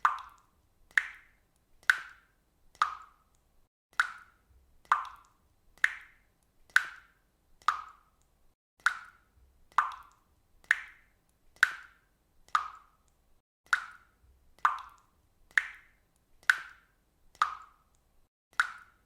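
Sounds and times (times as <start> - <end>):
water dripping: 0.0 - 19.0.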